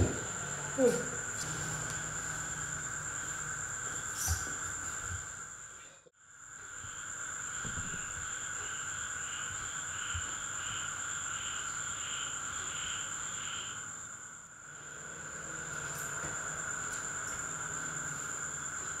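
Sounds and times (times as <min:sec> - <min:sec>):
insect high trill: 0:00.0 - 0:19.0
insect pulsing chirp: 0:00.0 - 0:19.0.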